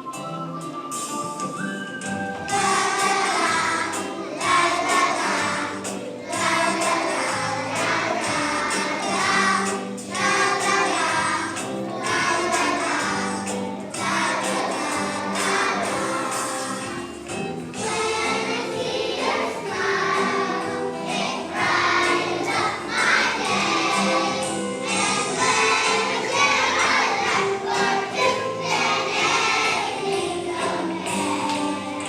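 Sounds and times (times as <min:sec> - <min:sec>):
musical accompaniment: 0:00.0 - 0:32.0
children's choir singing: 0:01.0 - 0:32.0.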